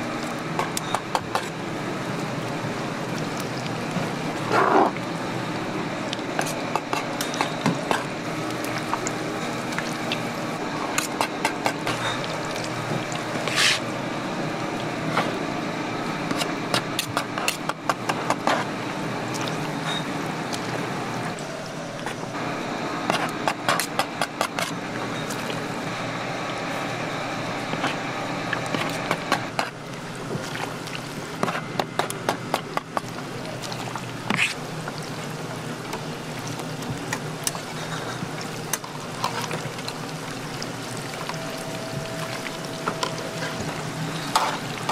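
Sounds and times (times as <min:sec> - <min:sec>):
oil sizzling in a fryer: 0:00.0 - 0:44.9.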